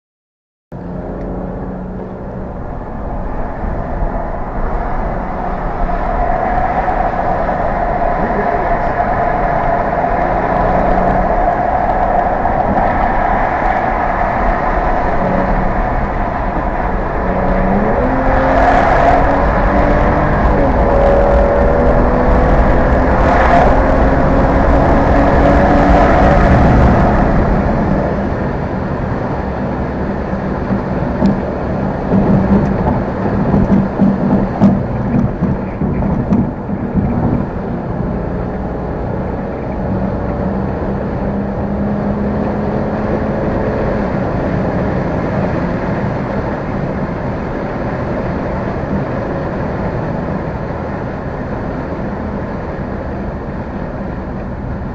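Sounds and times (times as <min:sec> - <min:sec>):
car engine and exhaust accelerating: 0:00.8 - 0:54.9.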